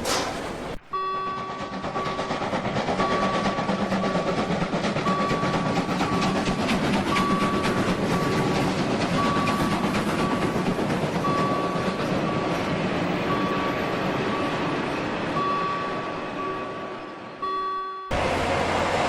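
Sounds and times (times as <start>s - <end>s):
train rattling on rails: 0.0s - 19.0s.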